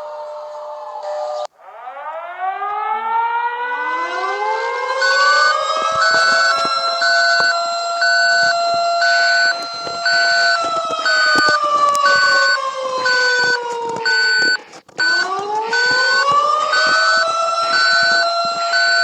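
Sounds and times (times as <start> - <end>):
two-tone siren sliding in pitch: 0.0 - 19.0
steady alarm beep: 1.9 - 19.0.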